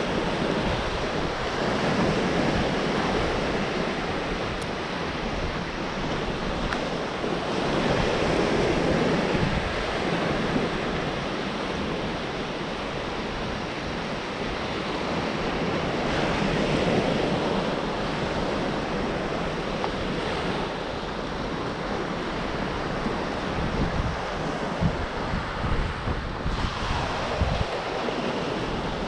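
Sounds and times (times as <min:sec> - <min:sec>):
surf breaking on sandy beach: 0:00.0 - 0:29.0
wind buffeting microphone: 0:00.0 - 0:29.0.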